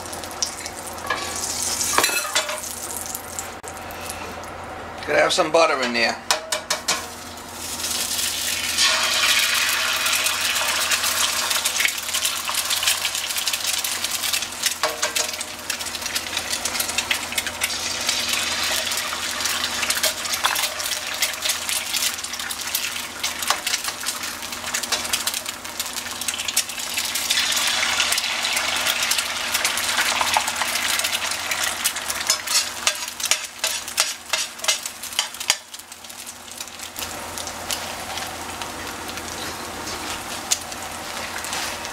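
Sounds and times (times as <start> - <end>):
eggs sizzling in a skillet: 0.0 - 4.3, 6.6 - 41.9.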